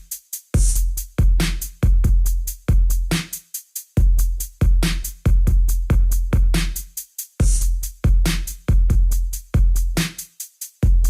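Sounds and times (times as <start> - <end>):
electronic music with drum-machine beat: 0.0 - 11.0.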